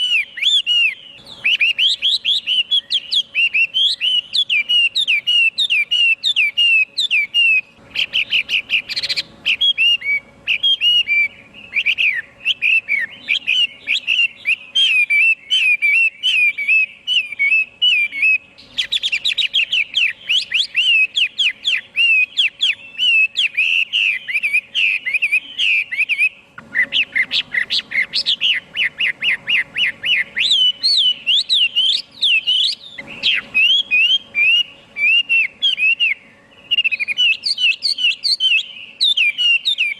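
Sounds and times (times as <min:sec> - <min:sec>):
songbird whistling: 0:00.0 - 0:39.9.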